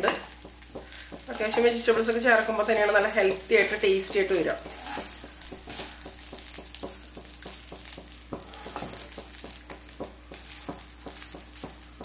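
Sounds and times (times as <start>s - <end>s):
food sizzling: 0.0s - 12.0s
wooden spatula scraping a pan: 0.0s - 12.0s.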